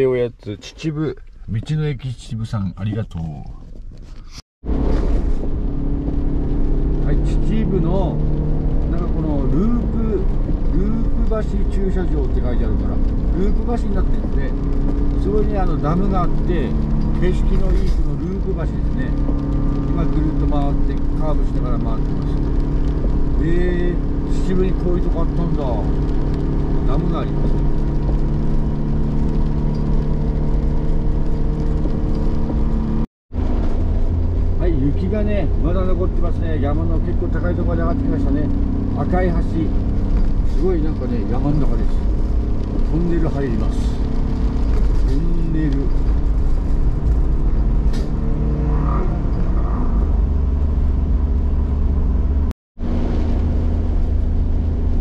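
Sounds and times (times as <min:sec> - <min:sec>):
car engine and tyres drone: 0:04.1 - 0:55.0.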